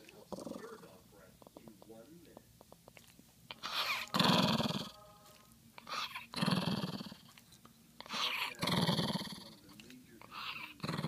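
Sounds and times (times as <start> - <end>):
dog growling: 0.0 - 7.4, 8.0 - 11.0.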